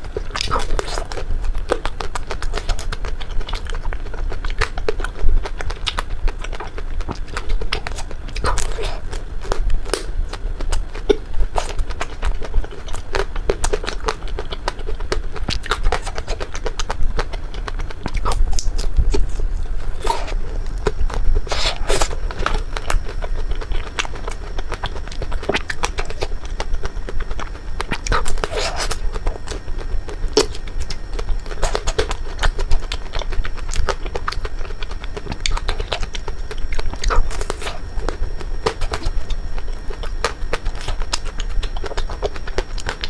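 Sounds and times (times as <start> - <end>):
crunching ice cream shell: 0.0 - 43.0
wet mouth sounds: 0.0 - 43.0.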